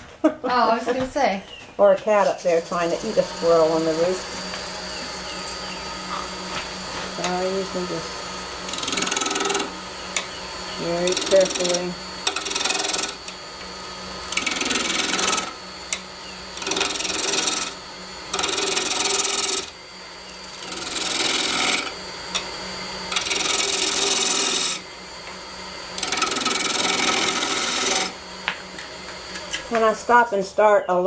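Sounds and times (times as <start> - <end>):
lathe humming: 2.1 - 30.7
gouge cutting wood on lathe: 2.4 - 4.6, 6.1 - 30.2.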